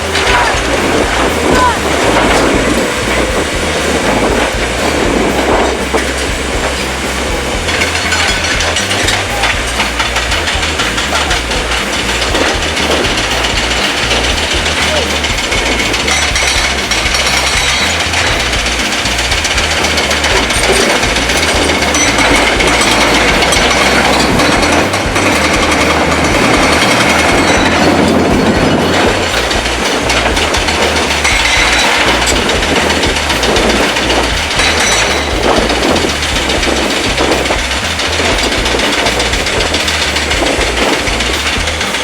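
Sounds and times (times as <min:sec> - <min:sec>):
diesel engine: 0:00.0 - 0:42.0
machinery clattering and rattling: 0:00.0 - 0:42.0.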